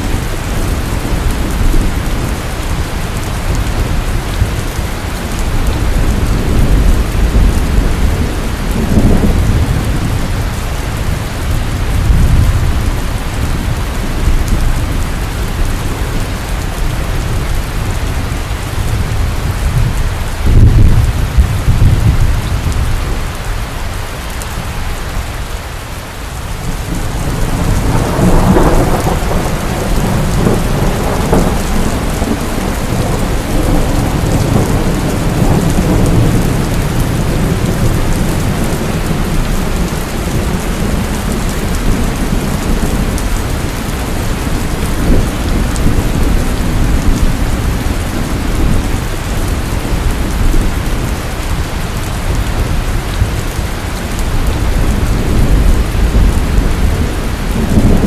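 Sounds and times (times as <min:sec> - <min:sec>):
heavy rain falling: 0:00.0 - 0:58.0
thunder rumbling: 0:00.0 - 0:58.0.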